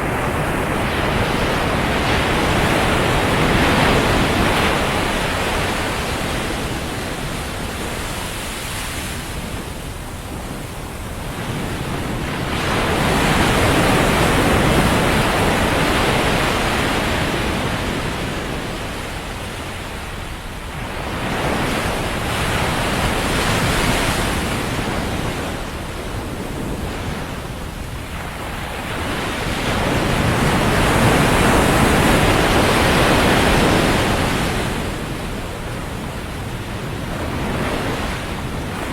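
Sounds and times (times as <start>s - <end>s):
waves breaking on sandy beach: 0.0s - 38.9s.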